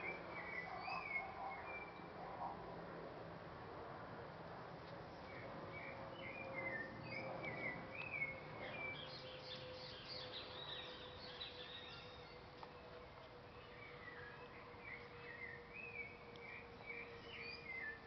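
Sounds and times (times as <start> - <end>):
songbird chirping: 0.0 - 2.5, 4.8 - 18.0
outdoor background noise: 0.0 - 18.0.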